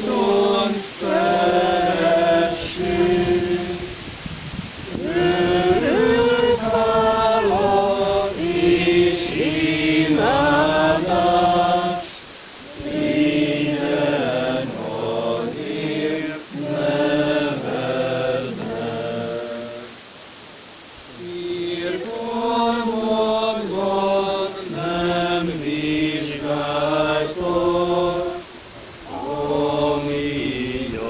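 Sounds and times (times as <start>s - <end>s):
congregation singing a hymn: 0.0s - 20.2s, 21.0s - 31.0s.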